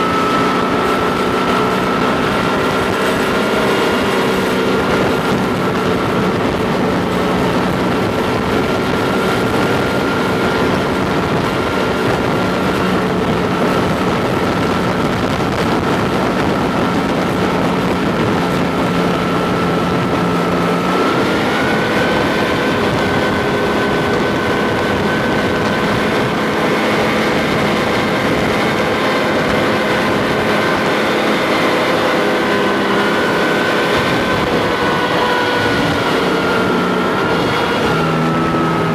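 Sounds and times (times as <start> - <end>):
high whine: 0.0 - 38.9
tracked vehicle engine drone: 0.0 - 38.9.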